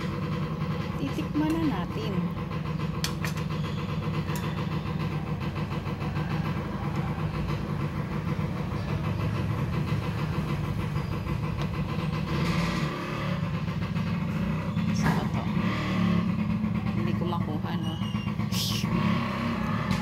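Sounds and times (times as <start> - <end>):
motorcycle engine puttering: 0.0 - 20.0.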